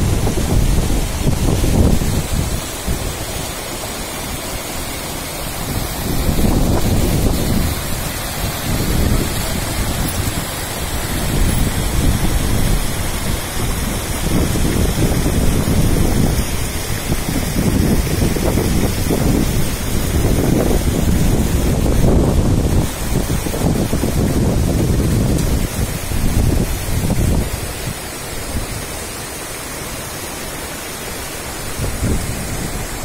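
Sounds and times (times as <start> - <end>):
wind buffeting the microphone: 0.0 - 3.6, 5.5 - 29.0, 31.6 - 33.0
river rushing over boulders: 0.0 - 33.0.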